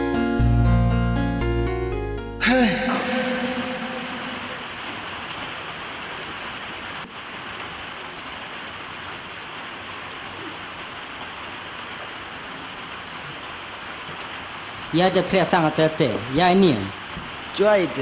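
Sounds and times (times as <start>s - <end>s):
steady hissing noise: 2.4s - 18.0s.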